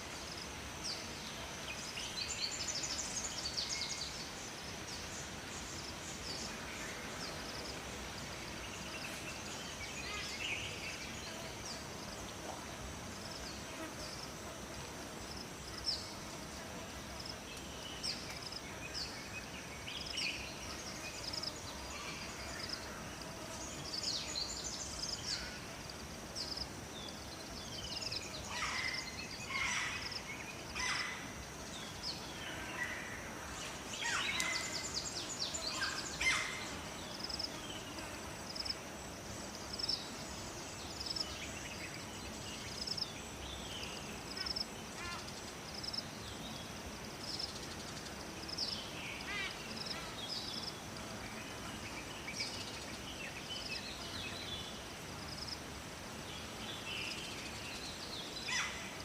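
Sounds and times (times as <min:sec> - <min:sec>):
high insect-like buzz: 0:00.0 - 0:55.8
faint hiss: 0:00.0 - 0:59.0.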